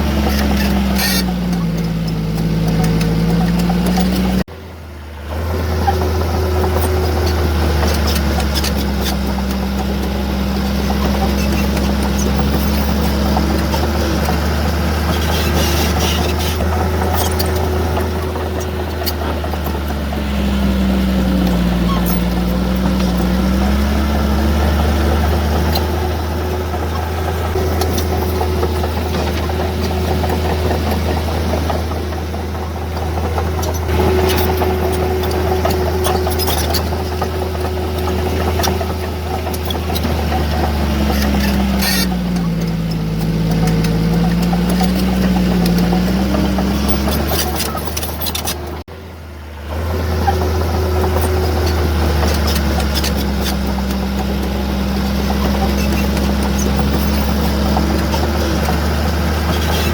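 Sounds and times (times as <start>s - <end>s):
diesel machine engine under load: 0.0s - 59.9s.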